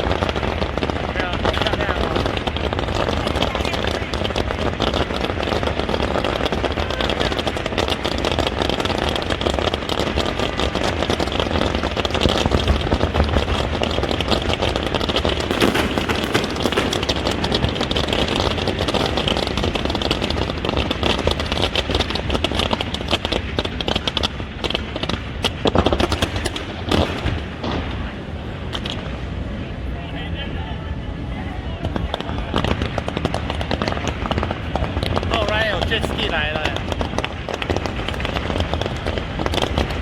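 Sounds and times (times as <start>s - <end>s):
heavy firework bangs: 0.0s - 29.6s, 31.7s - 40.0s
fireworks crackling: 0.0s - 40.0s.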